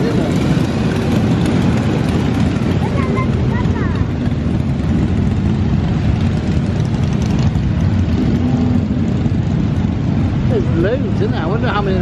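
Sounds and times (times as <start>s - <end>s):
motorcycles riding past: 0.0s - 12.0s.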